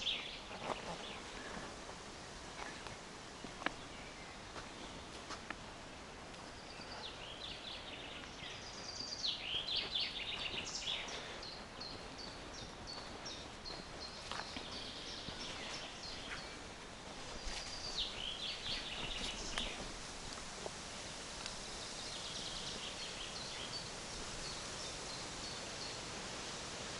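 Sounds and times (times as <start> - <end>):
faint steady hiss: 0.0 - 26.9
songbirds singing: 0.0 - 26.9.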